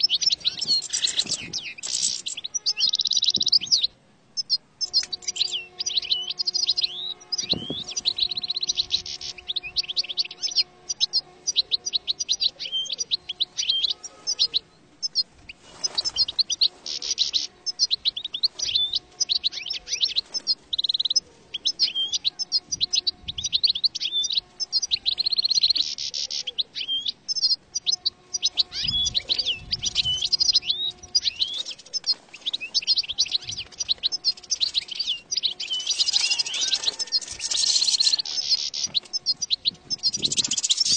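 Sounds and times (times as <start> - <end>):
goldfinch twittering and trills: 0.0 - 40.9.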